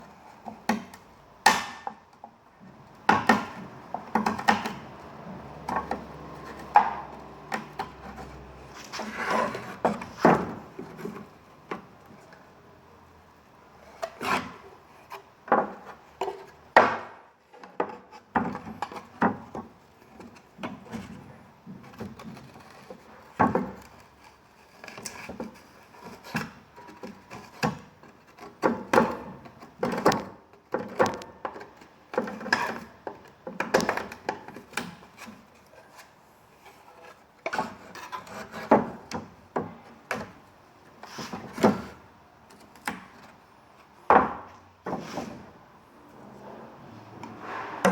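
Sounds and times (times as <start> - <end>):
wood scraping: 2.6 - 12.5, 13.7 - 47.9.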